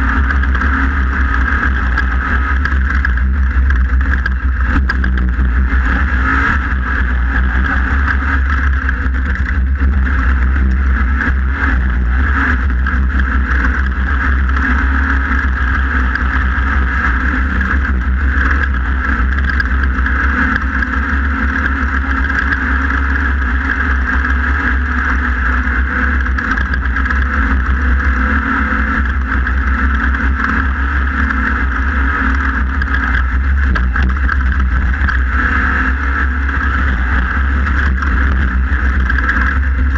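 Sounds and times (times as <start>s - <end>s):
race car engine drone: 0.0s - 39.9s.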